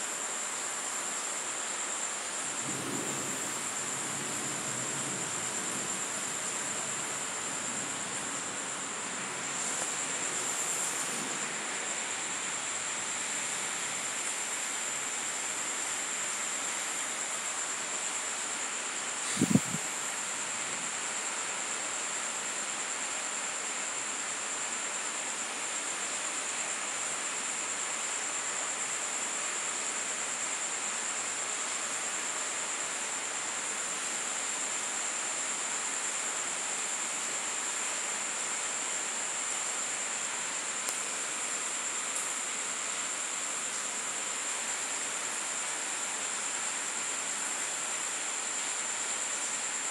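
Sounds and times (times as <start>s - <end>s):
insects droning: 0.0s - 49.9s
rain hiss: 0.0s - 49.9s.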